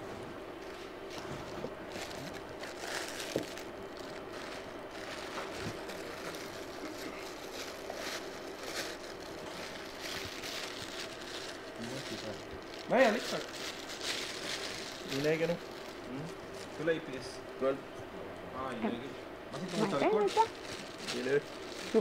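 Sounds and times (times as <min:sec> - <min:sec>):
equipment hum: 0:00.0 - 0:22.0.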